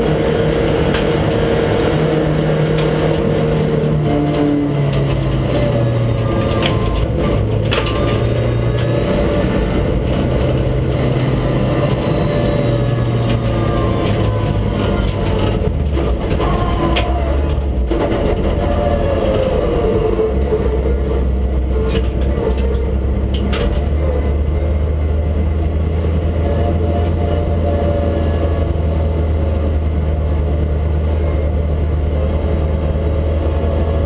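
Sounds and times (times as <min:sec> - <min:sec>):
car engine from inside cabin: 0:00.0 - 0:34.0.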